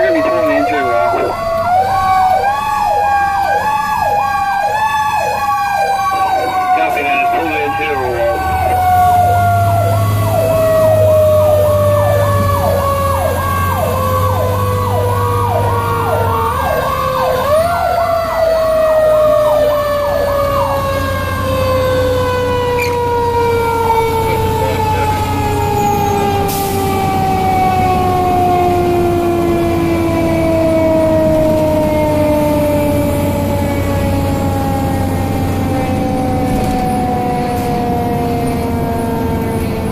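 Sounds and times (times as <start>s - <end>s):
electronic siren yelping: 0.0s - 39.9s.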